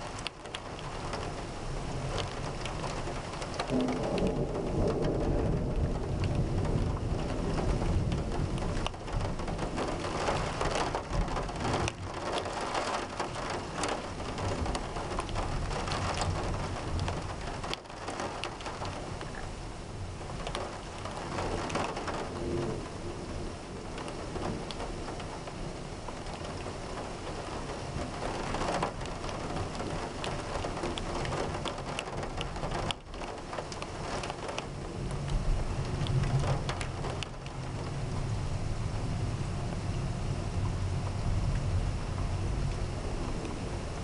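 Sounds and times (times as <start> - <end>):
heavy rain falling: 0.0 - 44.0
low rumble of thunder: 0.0 - 44.0
raindrops ticking close by: 0.0 - 44.0.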